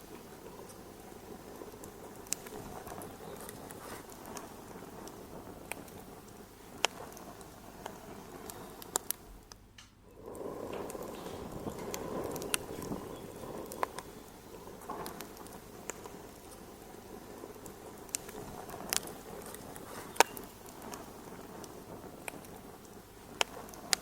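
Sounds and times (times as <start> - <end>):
fire pops and snaps: 0.0 - 24.0
flames rushing: 0.0 - 24.0
wood fire crackling: 0.0 - 24.0.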